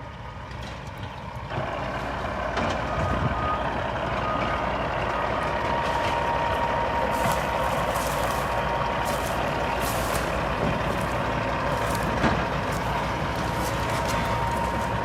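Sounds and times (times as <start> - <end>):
diesel engine rumble: 0.0 - 15.0
reversing beeper tone: 3.0 - 15.0.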